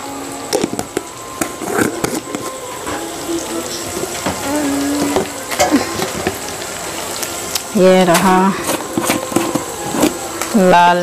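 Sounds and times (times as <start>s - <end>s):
chicken skin and onion sizzling: 0.0s - 11.0s.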